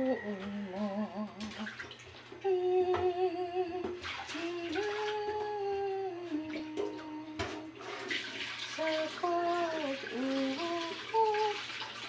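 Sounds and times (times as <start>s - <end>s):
woman singing a slow hymn: 0.0s - 1.8s, 2.4s - 7.8s, 8.7s - 11.7s
dishes clinking and splashing: 0.0s - 3.2s, 3.8s - 5.7s, 6.5s - 12.0s
running water: 0.0s - 12.0s.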